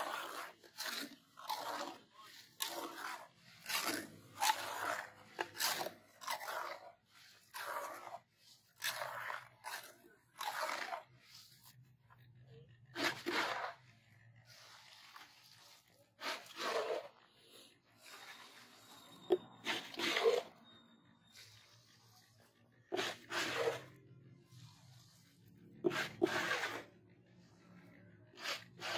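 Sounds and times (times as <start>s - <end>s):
trowel scraping cement mix: 0.0s - 28.9s.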